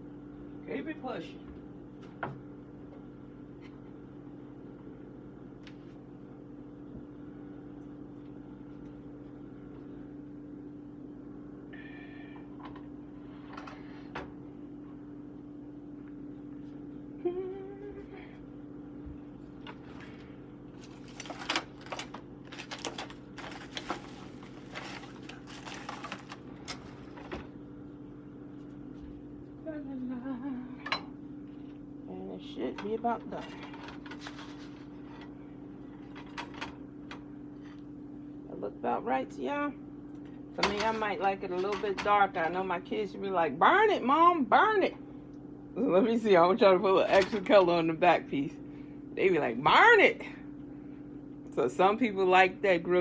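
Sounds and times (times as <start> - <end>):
steady machine hum: 0.0 - 53.0.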